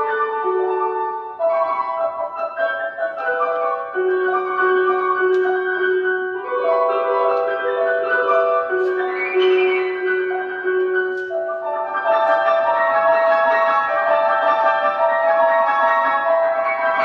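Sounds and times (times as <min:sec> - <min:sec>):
grand piano playing solo: 0:00.0 - 0:17.0.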